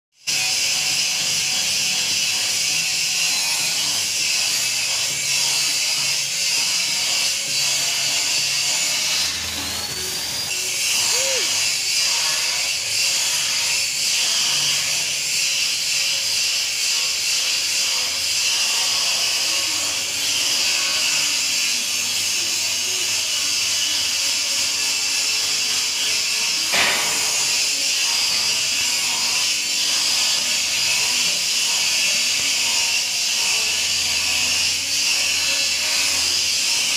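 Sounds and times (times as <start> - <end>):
welding arc hissing: 0.3 - 36.9.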